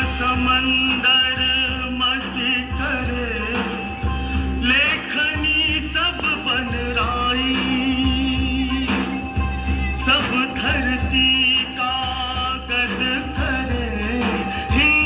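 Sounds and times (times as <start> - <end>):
person singing with ornamented pitch: 0.0 - 15.0.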